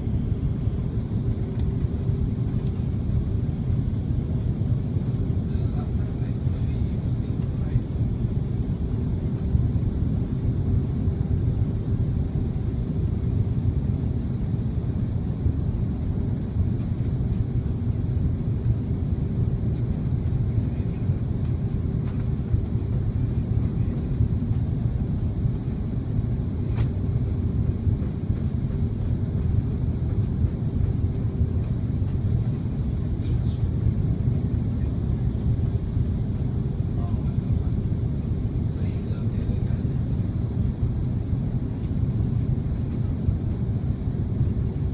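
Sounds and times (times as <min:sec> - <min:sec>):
airliner engine and airflow rumble: 0:00.0 - 0:44.9
faint steady hum: 0:00.0 - 0:44.9.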